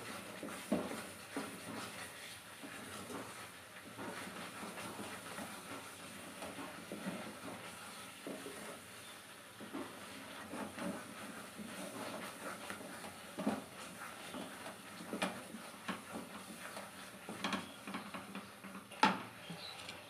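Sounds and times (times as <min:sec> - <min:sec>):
thick filling simmering: 0:00.0 - 0:20.0
wooden spatula scraping a pan: 0:00.0 - 0:20.0.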